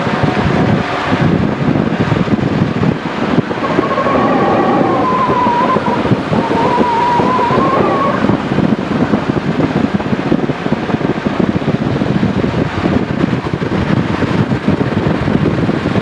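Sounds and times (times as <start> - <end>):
high wavering whine: 0.0 - 15.0
vehicle rumble: 0.0 - 16.0
wind buffeting microphone: 0.0 - 16.0.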